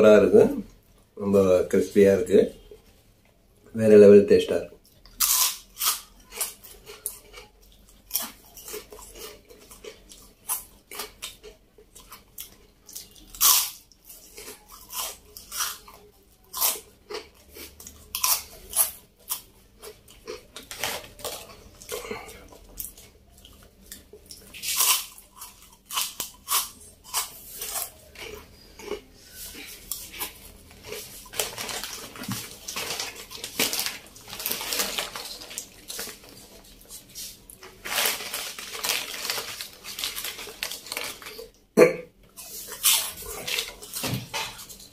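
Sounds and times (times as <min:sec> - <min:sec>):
crunching crispy snacks: 0:05.0 - 0:41.6.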